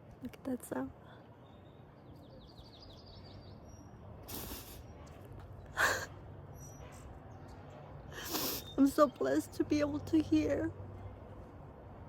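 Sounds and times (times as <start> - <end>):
faint outdoor ambience: 0.0 - 12.0
songbird singing: 1.0 - 11.2.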